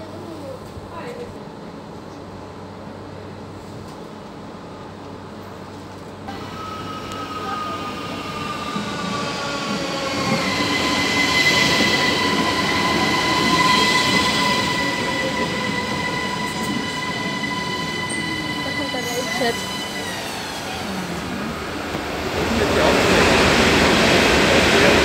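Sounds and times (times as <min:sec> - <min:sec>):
high train whine: 0:00.0 - 0:25.0
electric train rolling in: 0:04.7 - 0:25.0.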